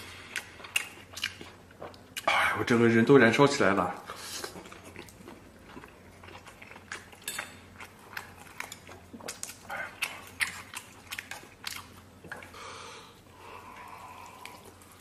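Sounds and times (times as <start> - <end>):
person chewing noodles: 0.0 - 2.3, 4.1 - 15.0.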